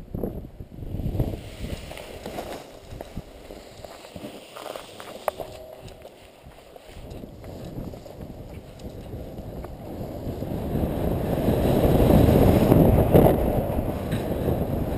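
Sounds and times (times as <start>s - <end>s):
wind rushing over microphone: 0.0s - 14.9s.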